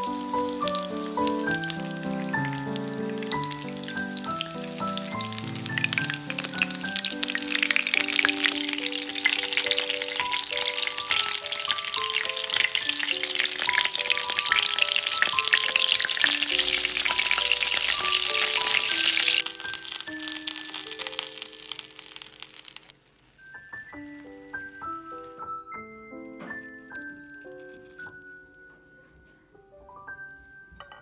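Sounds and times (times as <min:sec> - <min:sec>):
light background music: 0:00.0 - 0:21.8, 0:23.4 - 0:31.0
oil sizzling and crackling: 0:00.0 - 0:25.6, 0:26.6 - 0:28.2.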